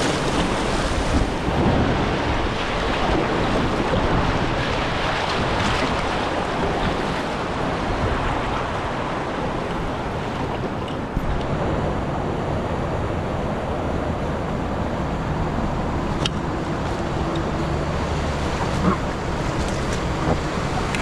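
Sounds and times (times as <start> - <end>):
river water rushing: 0.0 - 21.0
wind on microphone: 0.0 - 21.0.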